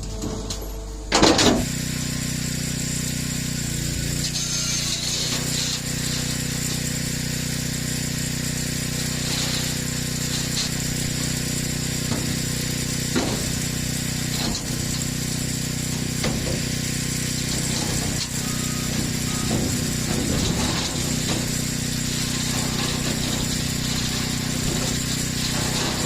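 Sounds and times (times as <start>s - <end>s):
angle grinder cutting steel: 1.6s - 26.0s.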